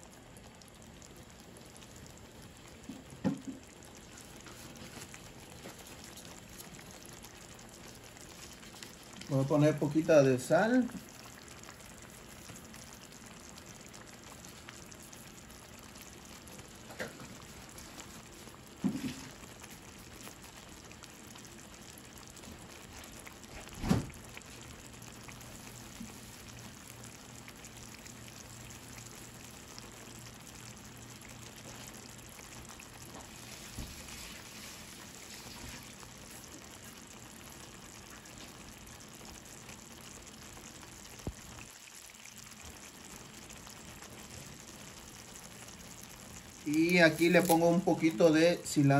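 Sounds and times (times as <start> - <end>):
salsa bubbling in a pan: 0.0 - 48.9.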